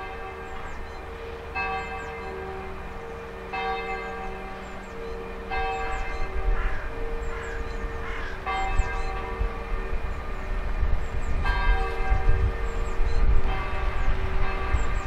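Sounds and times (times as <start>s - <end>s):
church bells ringing: 0.0s - 15.0s
freight train rumble: 0.0s - 15.0s.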